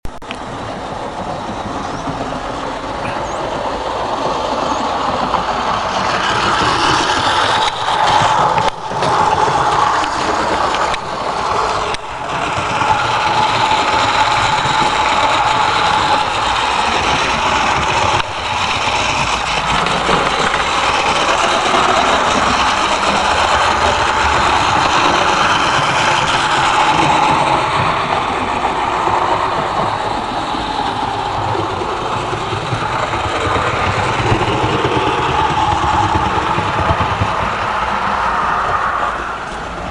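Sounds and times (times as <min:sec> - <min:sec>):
wheels rumbling on rails: 0:00.0 - 0:39.9
model train motor whine: 0:01.6 - 0:39.7.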